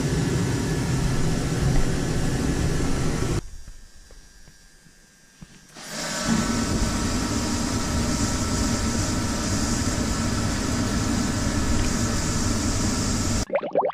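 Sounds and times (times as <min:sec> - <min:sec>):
space heater fan and burner rushing: 0:00.0 - 0:13.4.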